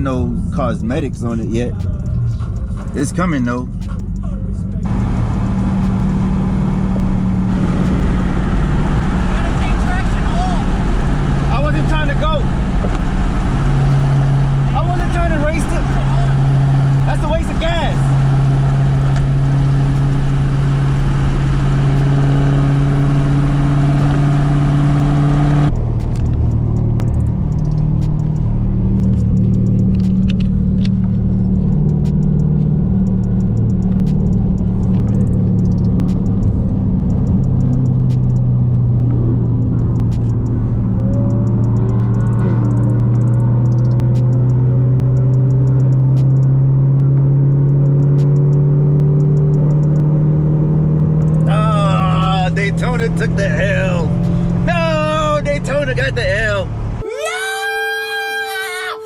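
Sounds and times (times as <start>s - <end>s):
car engine revving under load: 0.0s - 57.0s.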